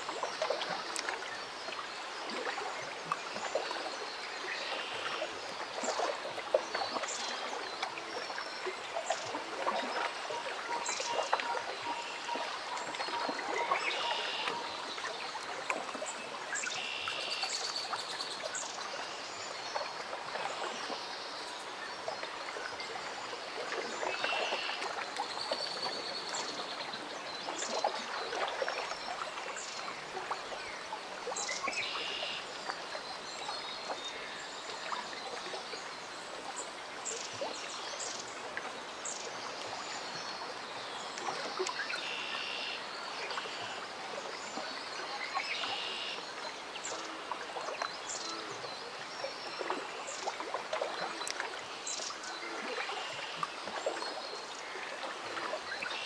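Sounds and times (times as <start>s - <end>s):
water lapping and trickling: 0.0s - 56.0s.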